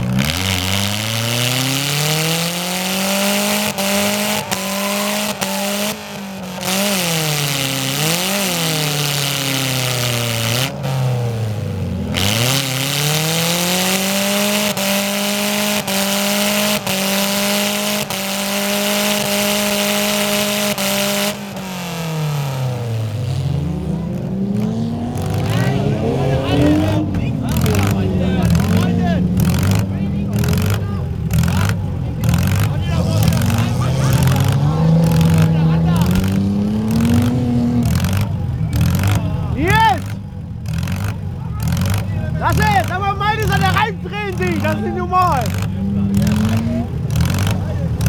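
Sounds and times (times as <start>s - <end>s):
car engine revving hard: 0.0s - 48.0s.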